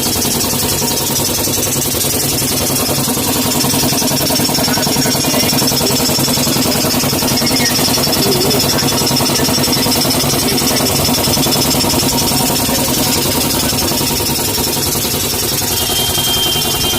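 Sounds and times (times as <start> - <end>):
air compressor chugging: 0.0 - 16.9.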